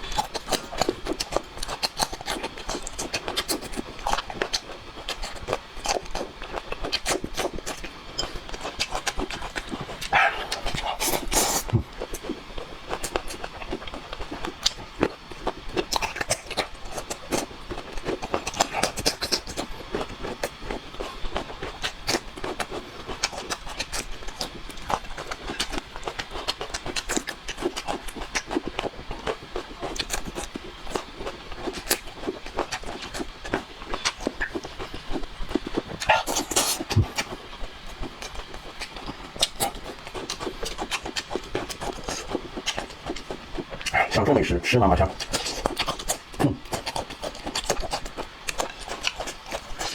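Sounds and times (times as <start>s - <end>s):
wet chewing and lip-smacking: 0.0s - 44.3s, 45.0s - 49.9s.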